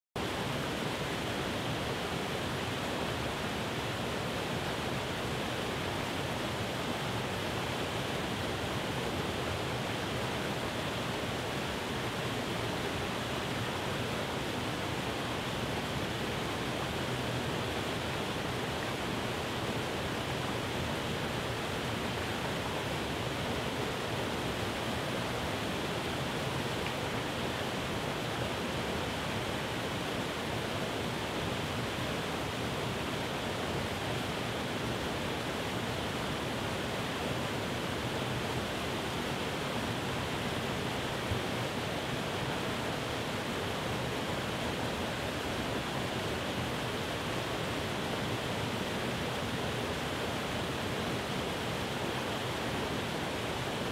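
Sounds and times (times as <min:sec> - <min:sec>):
waterfall rushing: 0:00.2 - 0:53.9.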